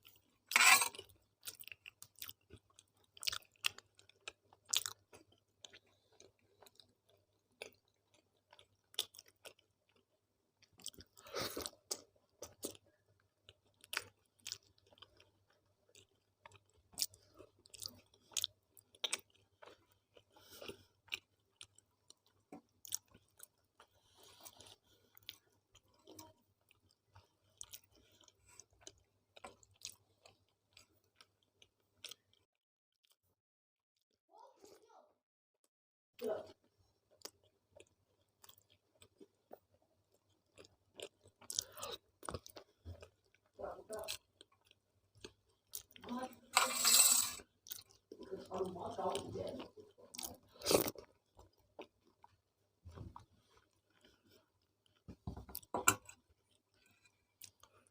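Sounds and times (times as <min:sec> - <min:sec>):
person chewing and smacking: 0:00.0 - 0:33.2, 0:36.8 - 0:46.1, 0:47.4 - 0:48.5, 0:49.1 - 0:57.9.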